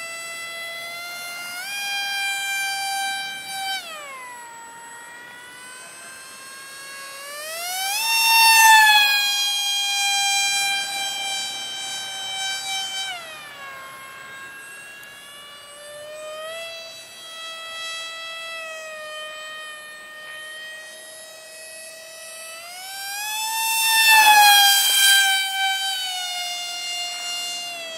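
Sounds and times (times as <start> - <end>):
model plane motor whining: 0.0 - 27.9.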